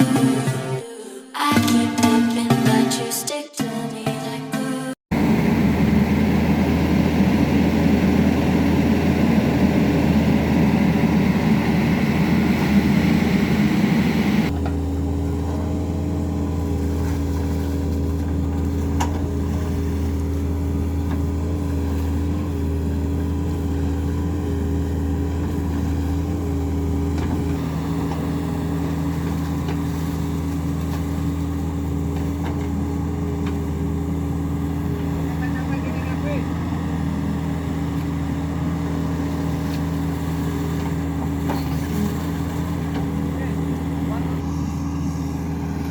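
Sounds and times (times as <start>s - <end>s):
excavator diesel engine running: 5.1s - 45.9s.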